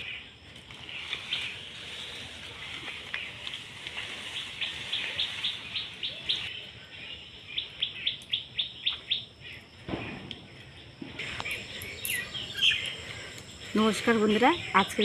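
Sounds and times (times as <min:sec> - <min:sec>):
bird chirping: 0:00.0 - 0:15.0
steady background hiss: 0:00.0 - 0:15.0.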